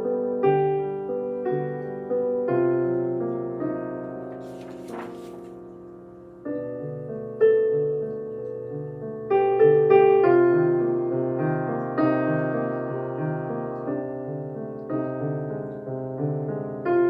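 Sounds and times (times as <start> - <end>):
slow dissonant piano piece: 0.0 - 4.5, 5.6 - 17.0.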